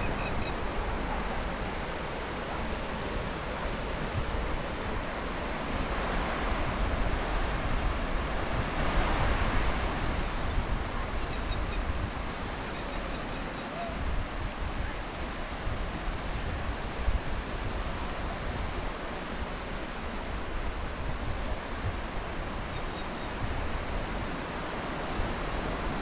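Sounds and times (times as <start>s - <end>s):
surf washing onto beach: 0.0s - 26.0s
wind rumbling on microphone: 0.0s - 26.0s.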